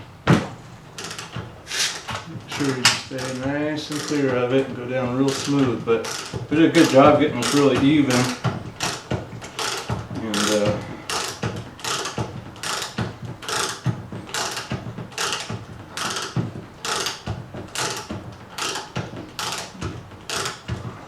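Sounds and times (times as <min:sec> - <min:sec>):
hoist ratchet clicking: 0:00.9 - 0:20.9.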